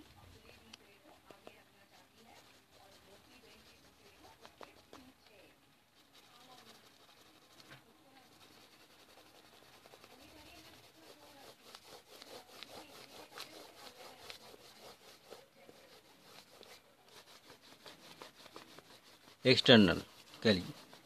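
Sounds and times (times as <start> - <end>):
pastel scratching on paper: 0.0 - 21.0.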